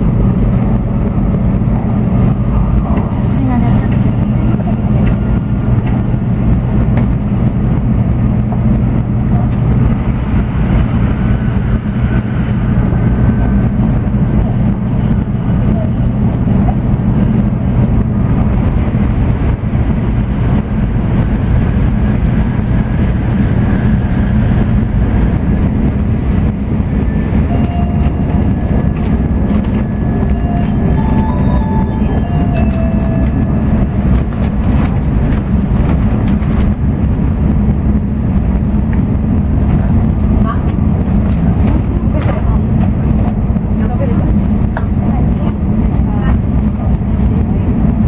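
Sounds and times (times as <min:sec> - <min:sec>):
train running at speed: 0:00.0 - 0:48.0.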